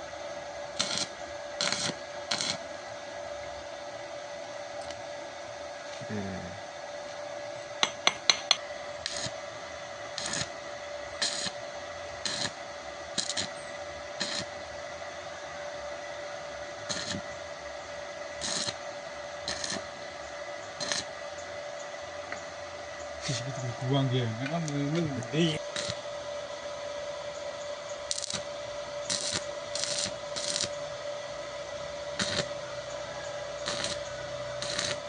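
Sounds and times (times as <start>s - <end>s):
cooling fan whine: 0.0s - 35.0s.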